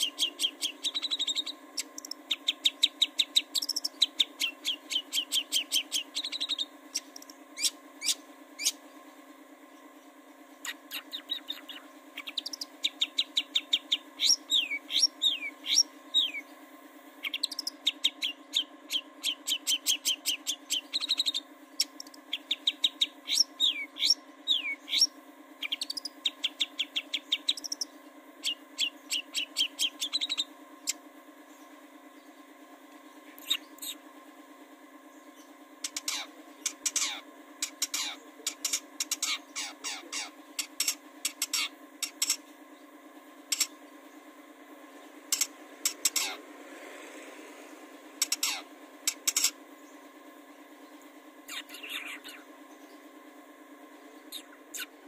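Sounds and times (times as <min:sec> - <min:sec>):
bird singing chattering phrases: 0:00.0 - 0:16.6, 0:17.2 - 0:34.1, 0:35.0 - 0:44.3, 0:44.9 - 0:46.6, 0:48.1 - 0:53.2, 0:53.9 - 0:55.0.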